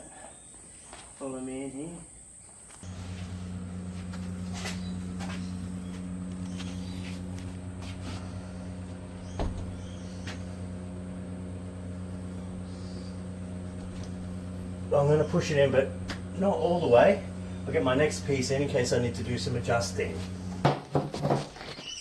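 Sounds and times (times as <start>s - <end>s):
low electric hum: 1.5s - 21.5s.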